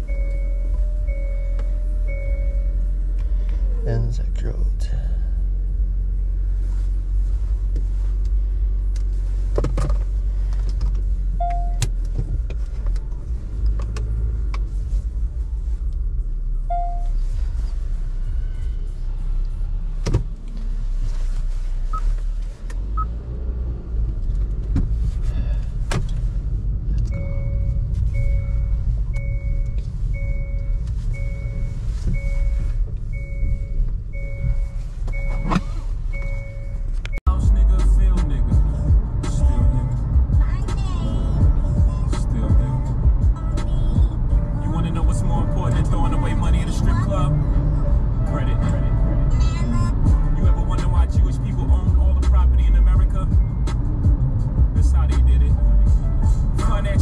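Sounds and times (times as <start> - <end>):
low vehicle rumble: 0.0 - 57.0.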